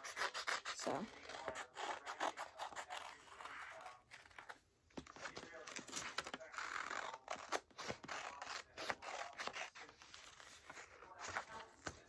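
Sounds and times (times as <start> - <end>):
scissors cutting paper: 0.0 - 4.5, 5.1 - 12.0.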